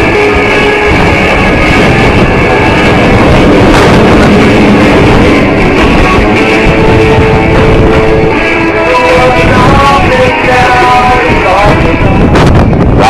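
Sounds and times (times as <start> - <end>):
jet engines rumbling: 0.0 - 13.0
rock music over loudspeakers: 0.0 - 13.0.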